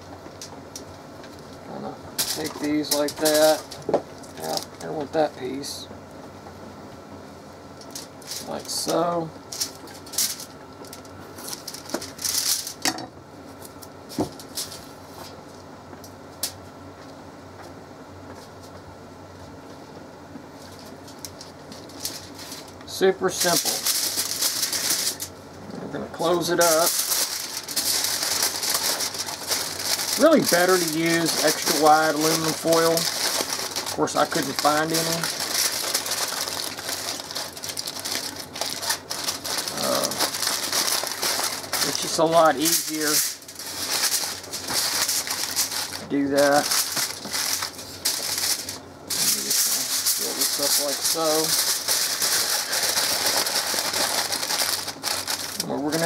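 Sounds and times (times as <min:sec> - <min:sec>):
aluminum foil crinkling: 0:00.7 - 0:05.7, 0:07.8 - 0:12.9, 0:13.6 - 0:15.3, 0:20.6 - 0:25.4, 0:26.1 - 0:56.0.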